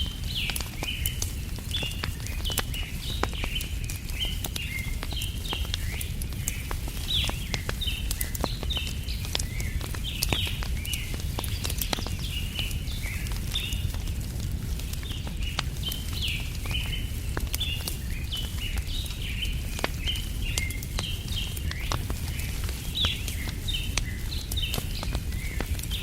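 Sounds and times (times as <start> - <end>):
small birds chirping: 0.0 - 26.0
wood fire crackling: 0.0 - 26.0.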